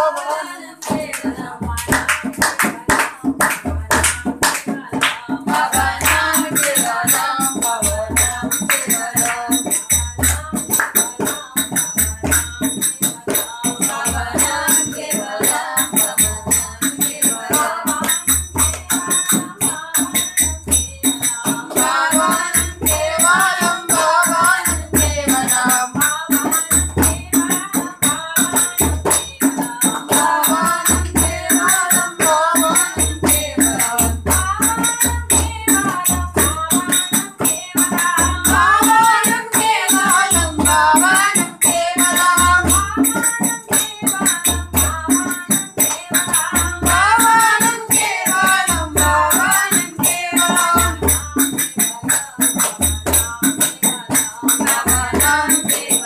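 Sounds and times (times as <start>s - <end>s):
rattling jingling percussion: 0.3s - 56.0s.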